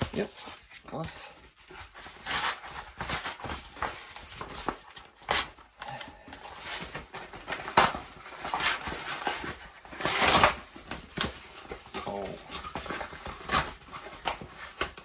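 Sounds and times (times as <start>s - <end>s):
cardboard and paper rustling: 0.0s - 15.0s.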